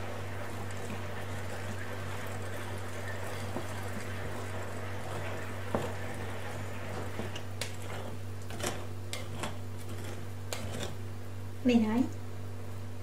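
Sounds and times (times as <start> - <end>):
whisk squishing batter: 0.0 - 11.1.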